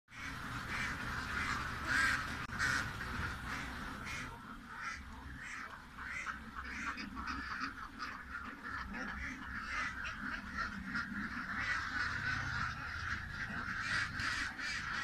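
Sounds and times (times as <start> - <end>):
ducks quacking: 0.1 - 15.0.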